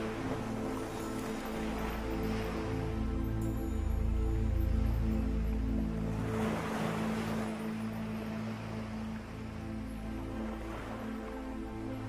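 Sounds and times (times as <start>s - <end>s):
soft lounge music: 0.0s - 12.0s.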